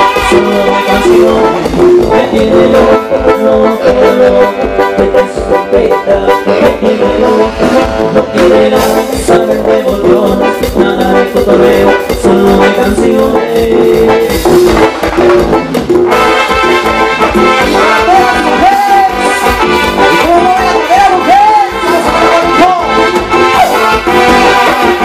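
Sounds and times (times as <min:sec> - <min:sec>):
drum beat: 0:00.0 - 0:04.7, 0:06.6 - 0:25.0
band playing latin dance music: 0:00.0 - 0:25.0
brass melody: 0:00.0 - 0:25.0.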